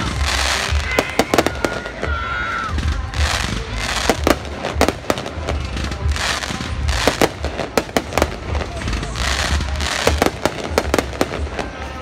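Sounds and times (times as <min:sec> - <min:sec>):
crackle of burning fireworks: 0:00.0 - 0:12.0
fireworks bangs and pops: 0:00.0 - 0:12.0.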